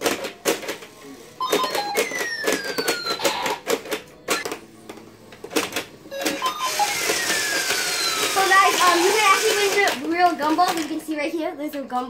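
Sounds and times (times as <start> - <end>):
plastic pinball clicks and clacks: 0.0 - 11.2.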